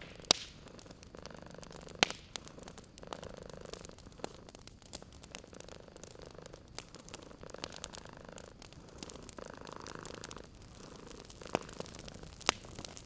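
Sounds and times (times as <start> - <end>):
wood fire crackling and popping: 0.0 - 13.0
cat purring: 0.1 - 13.0.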